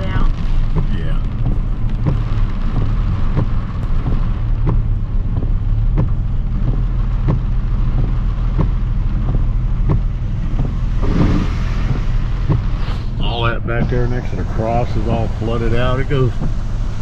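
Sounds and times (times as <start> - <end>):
truck engine running at low speed: 0.0 - 17.0.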